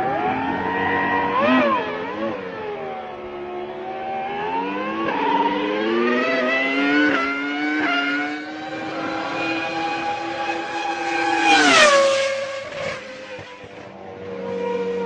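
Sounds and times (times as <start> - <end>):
racing car engine accelerating: 0.0 - 15.0.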